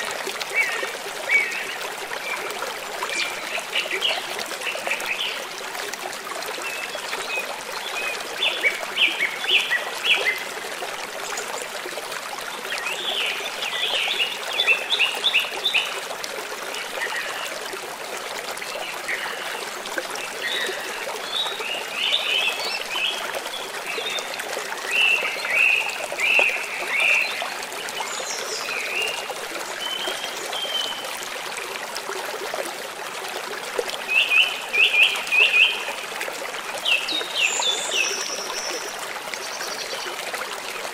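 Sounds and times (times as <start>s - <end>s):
stream water running: 0.0s - 40.9s.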